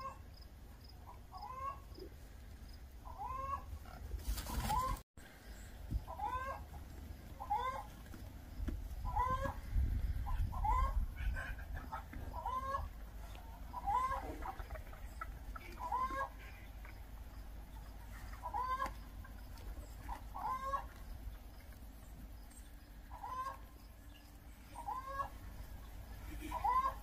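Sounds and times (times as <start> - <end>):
poultry calling: 1.0 - 2.4, 3.0 - 27.0.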